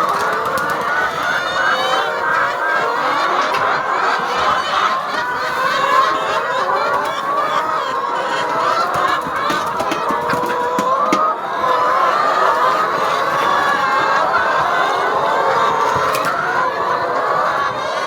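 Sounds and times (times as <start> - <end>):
chickens calling: 0.0 - 18.0.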